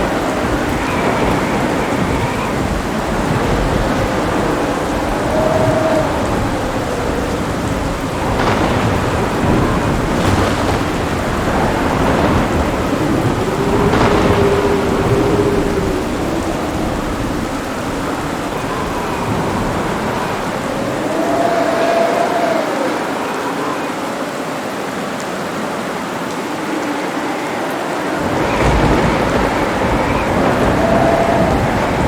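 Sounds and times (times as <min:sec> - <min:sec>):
thunder rumbling and cracking: 0:00.0 - 0:22.6, 0:28.0 - 0:32.0
heavy rain: 0:00.0 - 0:32.0.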